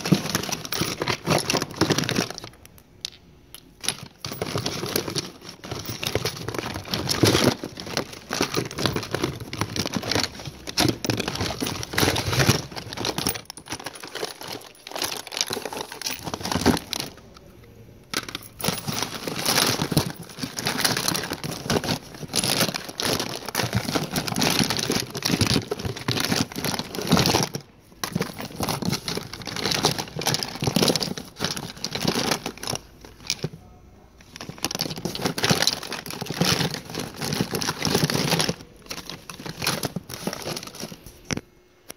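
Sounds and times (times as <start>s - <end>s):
plastic packaging crinkling: 0.0s - 2.7s, 3.8s - 33.6s, 34.2s - 41.4s.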